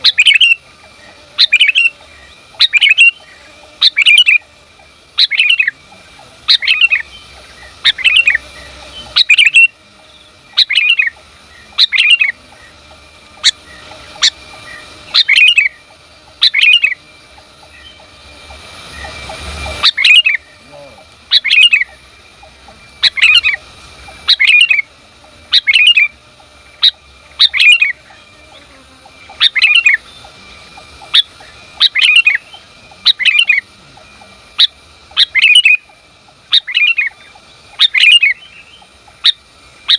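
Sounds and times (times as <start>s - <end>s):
bulbul chirping calls: 0.0s - 39.9s
hiss: 0.0s - 39.9s.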